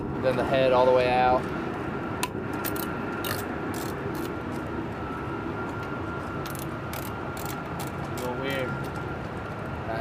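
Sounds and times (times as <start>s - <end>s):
aircraft machinery drone: 0.0s - 10.0s
high whine: 0.0s - 10.0s.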